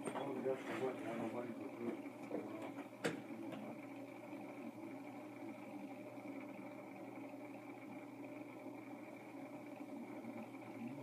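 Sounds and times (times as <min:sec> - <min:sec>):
faint background hum: 0:00.0 - 0:11.0.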